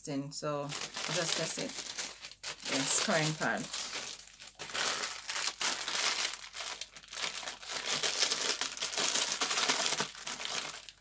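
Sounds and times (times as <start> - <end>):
plastic packaging crinkling: 0.7 - 11.0.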